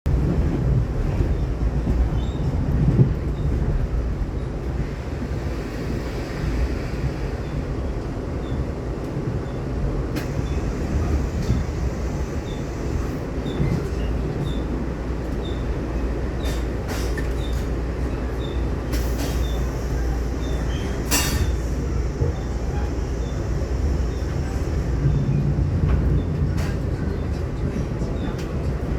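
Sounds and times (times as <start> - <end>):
train rumble: 0.0 - 28.9.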